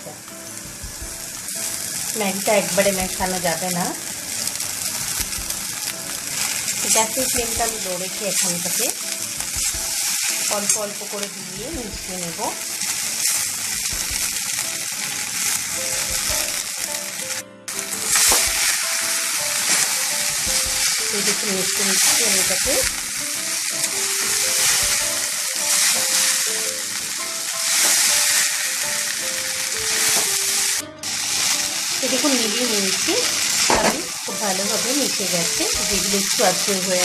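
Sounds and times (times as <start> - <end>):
noodles sizzling in a pan: 0.0 - 37.0.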